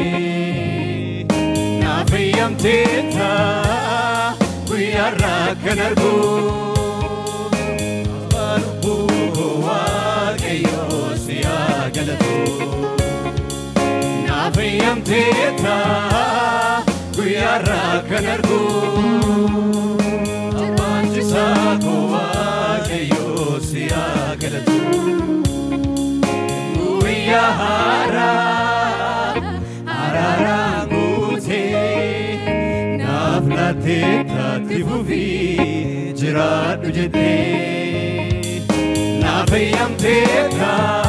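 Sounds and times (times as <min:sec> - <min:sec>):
amplified instrumental backing: 0:00.0 - 0:41.0
choir singing gospel song: 0:00.0 - 0:41.0
lead singer on microphone: 0:00.0 - 0:41.0.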